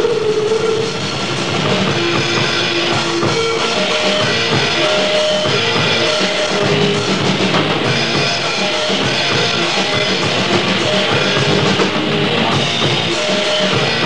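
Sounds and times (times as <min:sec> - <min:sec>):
distorted guitars: 0:00.0 - 0:14.0
drum kit: 0:00.0 - 0:14.0.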